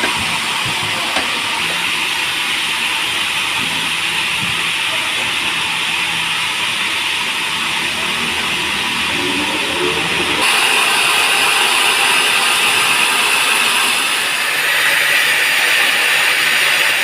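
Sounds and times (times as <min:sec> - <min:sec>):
sawmill saw hissing: 0:00.0 - 0:17.0.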